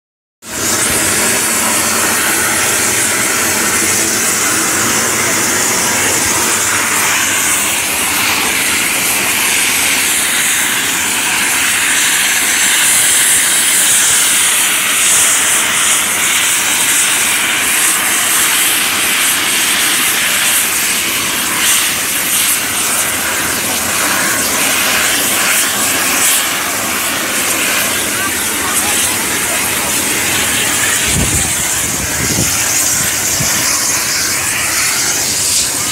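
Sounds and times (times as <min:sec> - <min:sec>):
helicopter turbines and rotor whine: 0:00.4 - 0:35.9.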